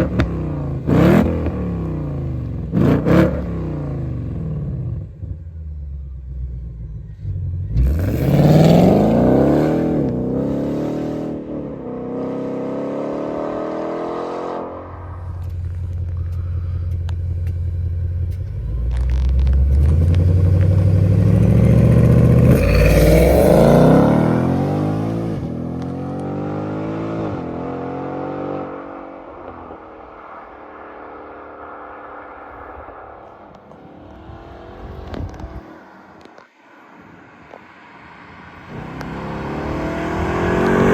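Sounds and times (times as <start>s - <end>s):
car engine revving: 0.0s - 5.3s, 6.9s - 36.4s, 38.0s - 40.9s.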